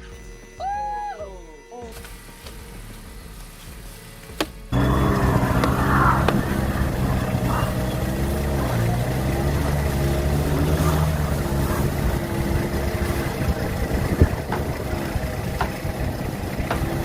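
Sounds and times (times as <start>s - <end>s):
engine running steadily: 2.0s - 17.0s.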